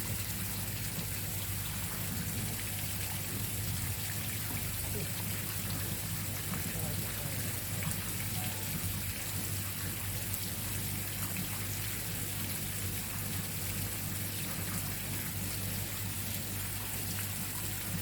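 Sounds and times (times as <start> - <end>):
running water: 0.0 - 18.0.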